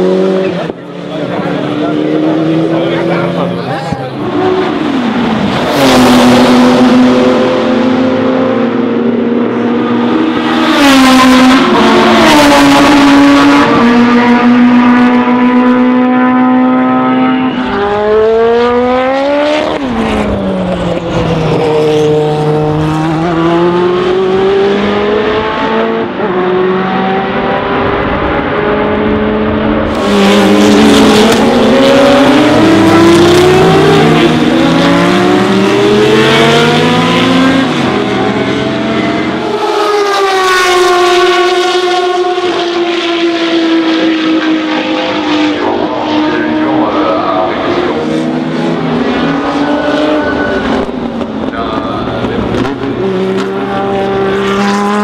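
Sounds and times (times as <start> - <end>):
race car engines at high revs: 0.0 - 55.0
race car passing: 0.0 - 55.0.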